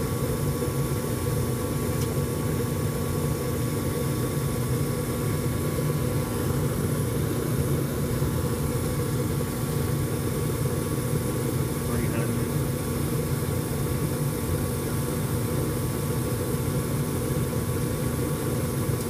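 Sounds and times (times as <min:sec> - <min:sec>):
furnace humming: 0:00.0 - 0:19.0.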